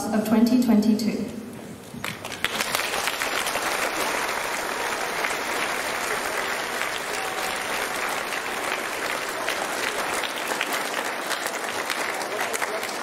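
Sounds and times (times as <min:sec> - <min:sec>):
audience applause: 0:02.0 - 0:13.0.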